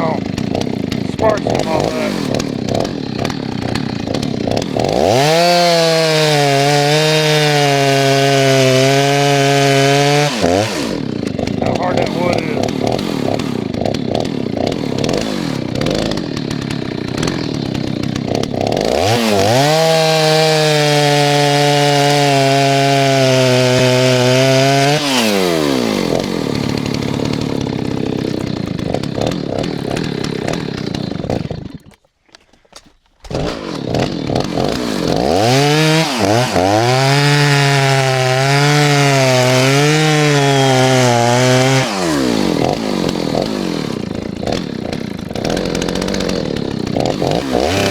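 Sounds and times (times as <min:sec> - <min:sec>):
chainsaw idling: 0:00.0 - 0:32.1, 0:33.2 - 0:47.9
chainsaw cutting wood: 0:00.0 - 0:47.9.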